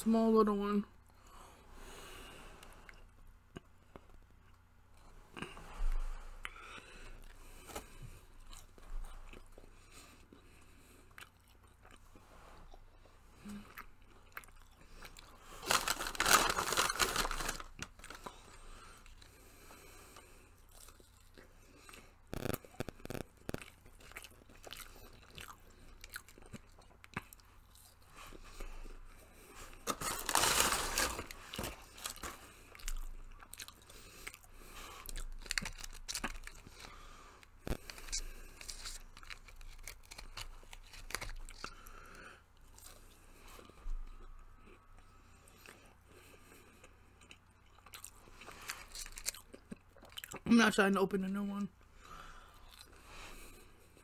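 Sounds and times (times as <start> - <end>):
person chewing: 2.6 - 50.5, 52.0 - 54.0.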